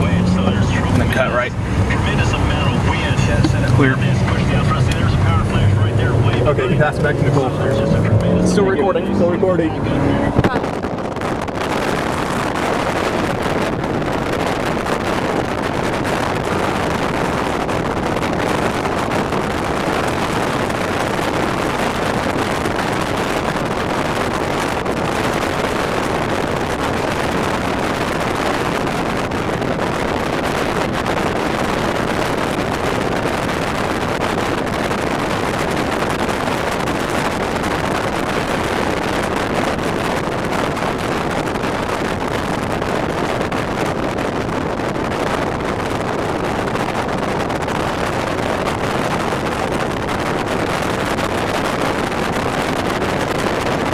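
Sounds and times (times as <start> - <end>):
strong wind over microphone: 0.0 - 53.9.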